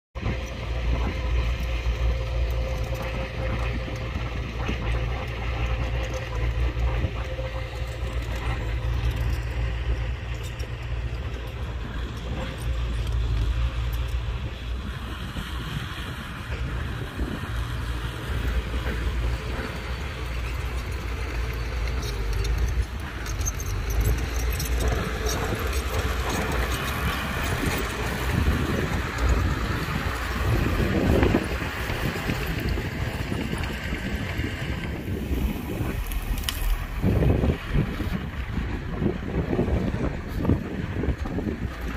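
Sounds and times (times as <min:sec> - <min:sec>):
heavy diesel machinery rumbling: 0:00.2 - 0:41.9.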